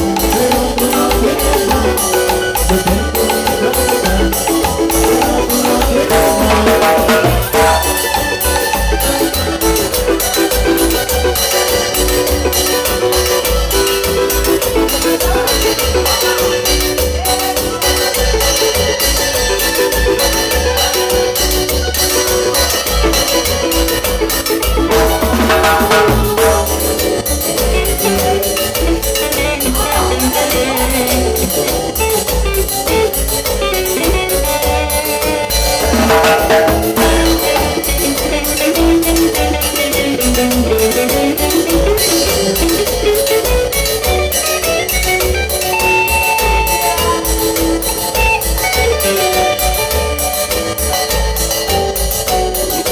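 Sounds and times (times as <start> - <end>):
dense percussion beat: 0.0 - 52.9
live band music: 0.0 - 52.9.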